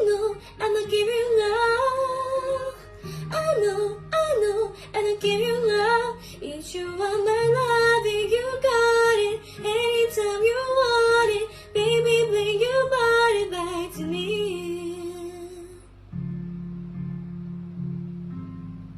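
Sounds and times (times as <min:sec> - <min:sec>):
woman singing melismatic melody: 0:00.0 - 0:16.0.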